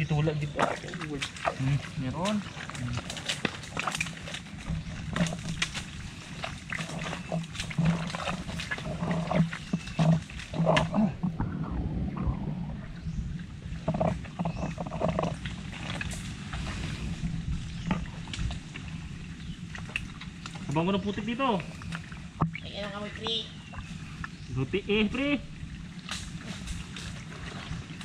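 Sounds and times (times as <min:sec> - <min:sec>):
mud squelching: 0:00.0 - 0:24.5.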